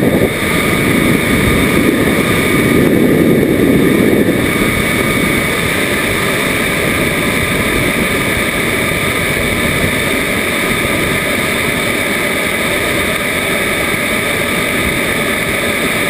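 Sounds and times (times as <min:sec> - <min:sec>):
airflow rushing: 0:00.0 - 0:16.0
high whine: 0:00.0 - 0:16.0
jet engine noise: 0:00.0 - 0:16.0.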